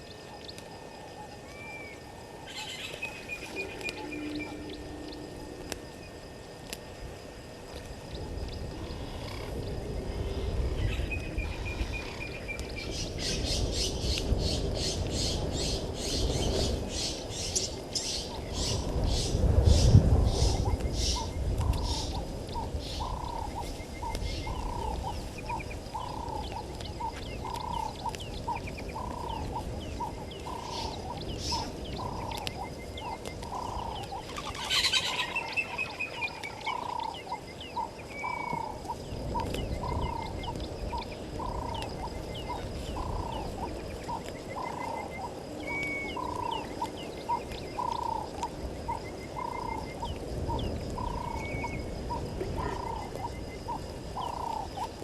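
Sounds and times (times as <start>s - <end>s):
frog croaking: 0.0s - 6.7s, 7.6s - 16.3s, 20.3s - 55.0s
birds chirping thinly: 10.4s - 55.0s.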